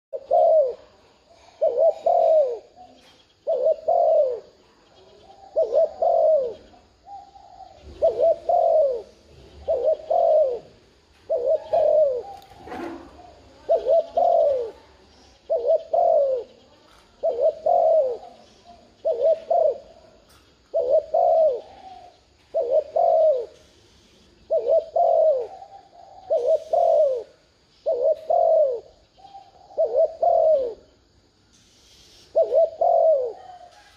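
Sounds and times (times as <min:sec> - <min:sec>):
dove cooing: 0:00.1 - 0:31.2, 0:31.8 - 0:33.9.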